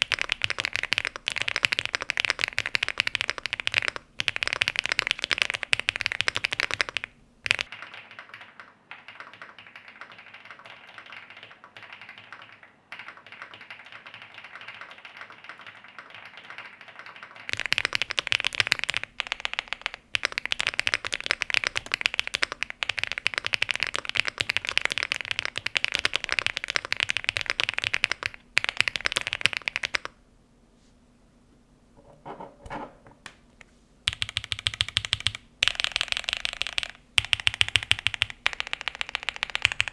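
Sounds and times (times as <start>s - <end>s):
mechanical keyboard typing: 0.0s - 30.2s, 34.1s - 39.9s.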